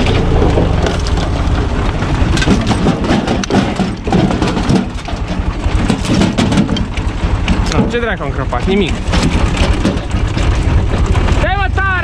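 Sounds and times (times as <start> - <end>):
log crackling and knocking: 0.0 - 11.8
tractor diesel engine under load: 0.0 - 12.0.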